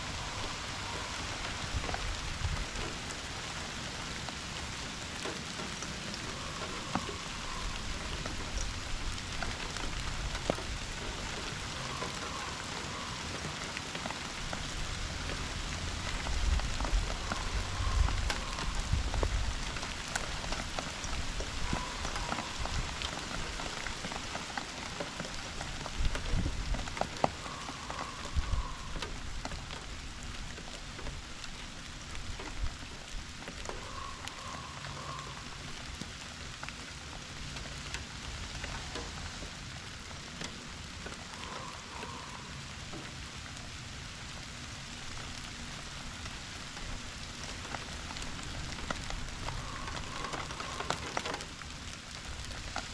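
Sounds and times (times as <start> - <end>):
rain hiss: 0.0 - 52.9
raindrops pattering: 0.0 - 52.9.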